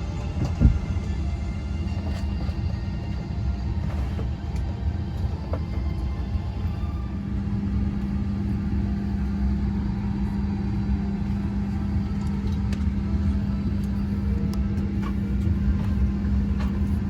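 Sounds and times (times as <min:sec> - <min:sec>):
constant low hum: 0:00.0 - 0:17.0
low machine rumble: 0:00.0 - 0:17.0.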